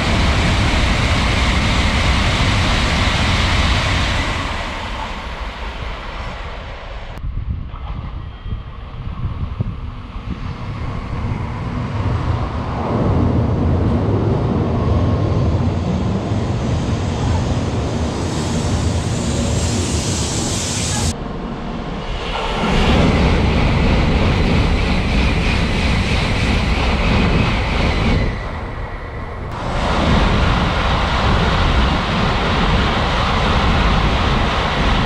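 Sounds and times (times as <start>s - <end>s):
train rushing past: 0.0s - 7.2s, 7.8s - 35.0s.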